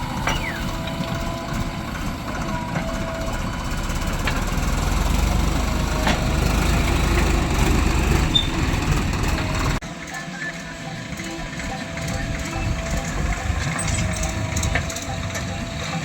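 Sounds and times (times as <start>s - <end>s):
heavy machinery diesel engine rumbling: 0.0s - 16.0s.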